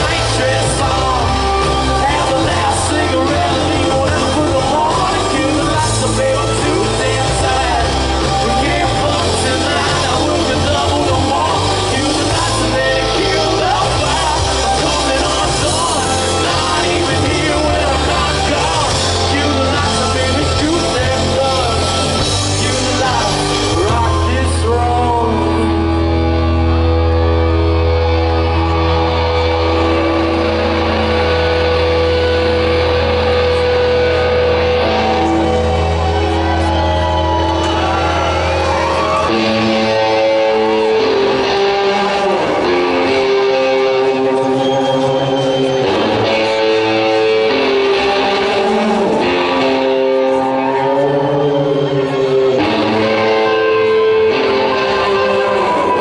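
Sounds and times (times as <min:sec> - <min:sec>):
hard rock band playing: 0:00.0 - 0:56.0
person singing: 0:00.0 - 0:56.0.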